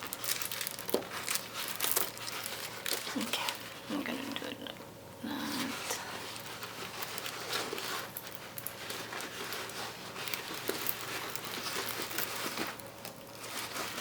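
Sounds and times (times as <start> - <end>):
plastic crinkling and rustling: 0.0 - 4.6, 5.4 - 14.0.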